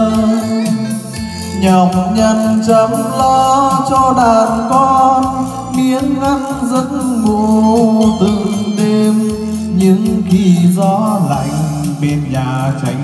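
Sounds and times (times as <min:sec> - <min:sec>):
slow song over loudspeakers: 0:00.0 - 0:13.0.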